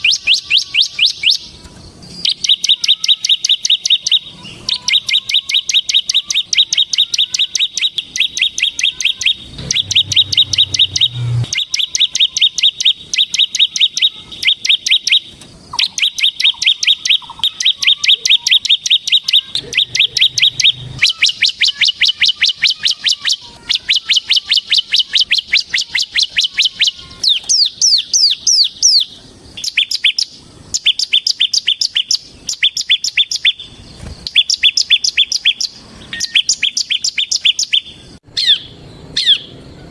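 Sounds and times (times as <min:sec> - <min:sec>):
bird singing rattling trills: 0:00.0 - 0:39.9.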